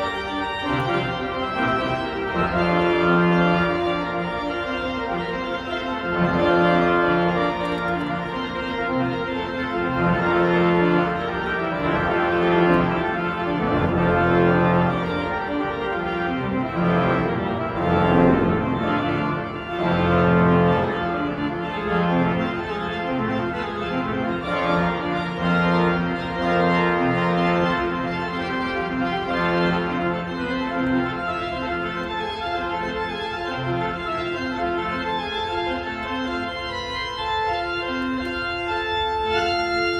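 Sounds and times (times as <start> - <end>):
pipe organ playing chords: 0.0 - 39.9.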